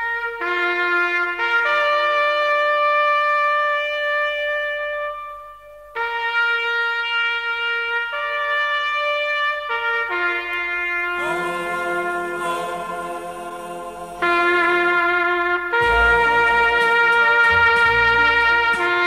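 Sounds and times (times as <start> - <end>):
slow solo trumpet: 0.0 - 19.0.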